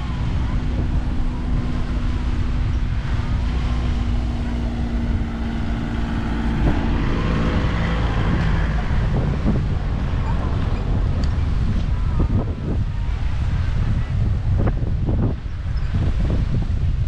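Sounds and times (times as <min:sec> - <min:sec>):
motor hum: 0:00.0 - 0:16.0
passers-by voices: 0:00.0 - 0:16.8
wind buffeting microphone: 0:00.0 - 0:17.0.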